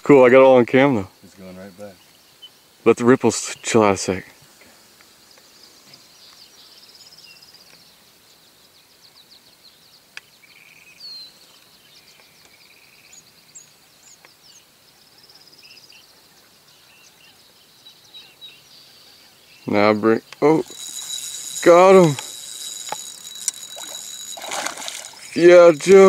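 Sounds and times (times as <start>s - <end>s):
quiet outdoor background noise: 0.0s - 26.0s
birds chirping and trilling: 5.1s - 26.0s.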